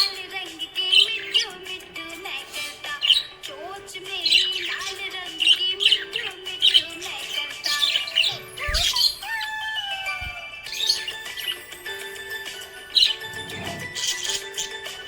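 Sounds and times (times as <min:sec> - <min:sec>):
background music with sustained tones: 0:00.0 - 0:15.0
parrots chirping and trilling: 0:00.0 - 0:15.0.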